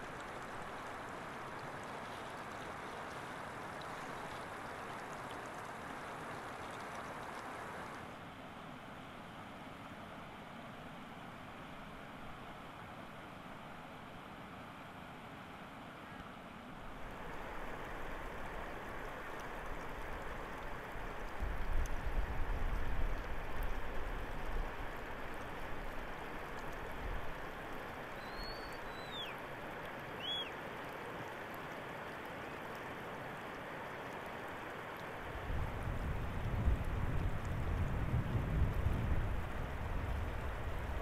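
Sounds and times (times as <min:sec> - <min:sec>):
mountain stream rushing: 0:00.0 - 0:08.4, 0:14.4 - 0:41.0.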